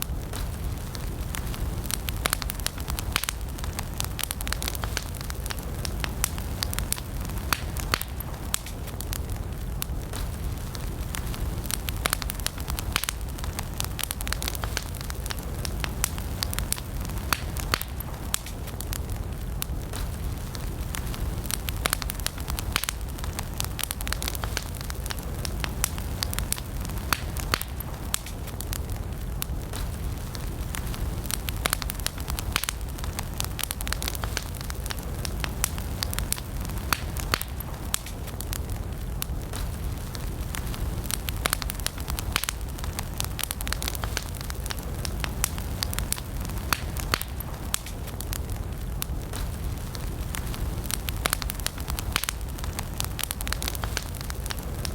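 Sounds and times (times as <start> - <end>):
campfire crackles and pops: 0.0 - 54.9
low rumble of flames: 0.0 - 54.9.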